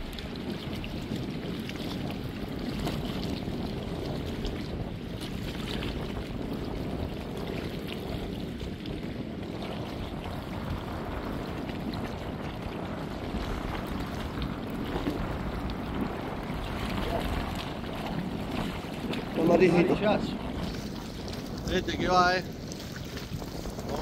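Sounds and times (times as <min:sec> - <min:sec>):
river water washing against bank: 0:00.0 - 0:24.0
wind buffeting microphone: 0:00.0 - 0:24.0.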